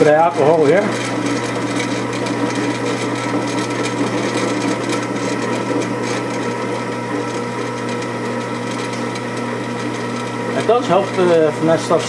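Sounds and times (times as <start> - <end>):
drill bit scraping metal: 0.0 - 12.0
drill press motor hum and whine: 0.0 - 12.0.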